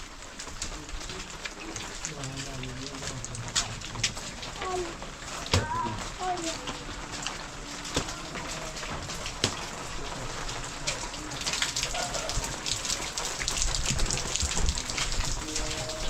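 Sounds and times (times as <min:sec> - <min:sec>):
heavy rain: 0:00.0 - 0:16.0
raindrops striking nearby: 0:00.0 - 0:16.0.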